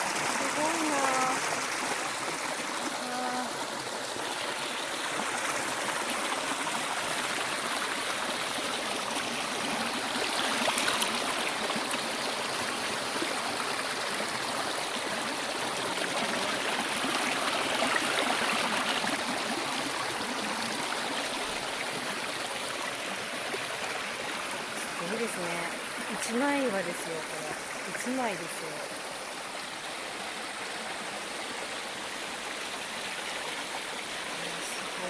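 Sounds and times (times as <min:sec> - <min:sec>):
stream rushing over rocks: 0:00.0 - 0:35.0.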